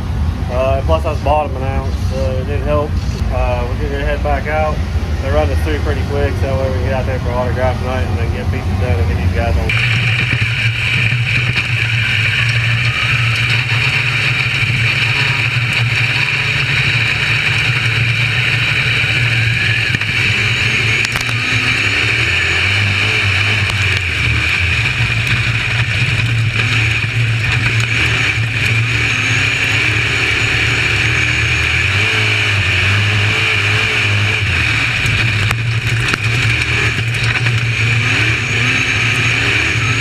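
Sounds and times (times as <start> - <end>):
race car engine running: 0.0 - 40.0.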